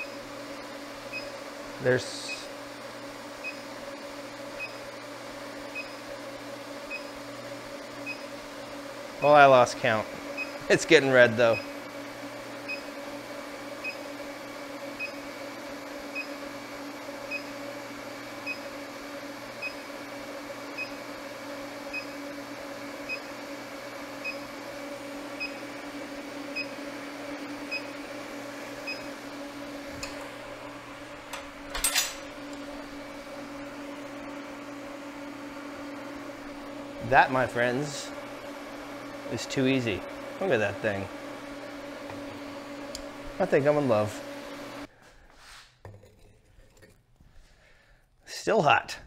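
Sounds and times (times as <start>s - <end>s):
forge electrical hum: 0.0s - 49.0s.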